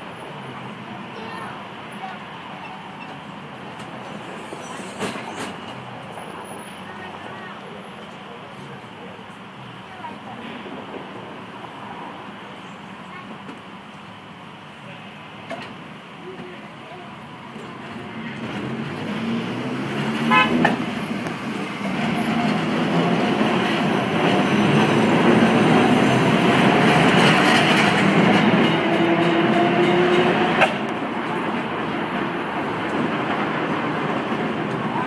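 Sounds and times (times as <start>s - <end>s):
streetcar rolling on rails: 0.0s - 35.0s.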